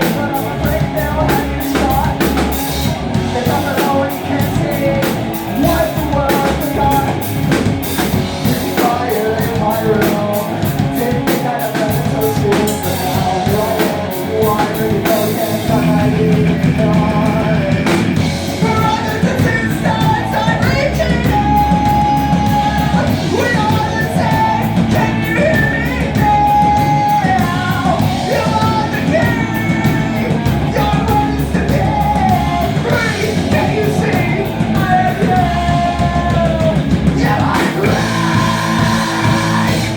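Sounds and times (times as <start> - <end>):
live rock band playing: 0.0 - 39.9
person singing and shouting: 0.0 - 39.9.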